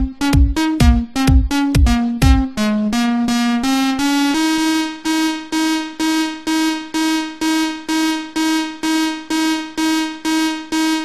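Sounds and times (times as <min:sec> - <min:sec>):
repeated synthesizer note stabs: 0:00.0 - 0:11.0.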